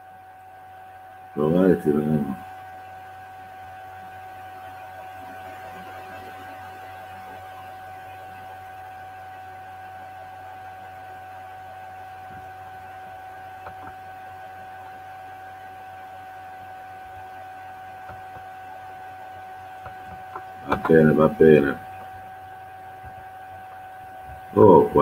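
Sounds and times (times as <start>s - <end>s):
electrical whine with hum: 0.0s - 25.0s.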